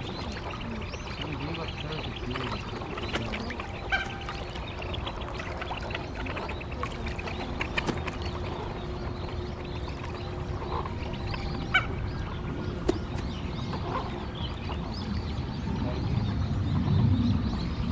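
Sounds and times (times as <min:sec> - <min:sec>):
ducks calling: 0:00.0 - 0:15.4
outdoor background noise: 0:00.0 - 0:17.9.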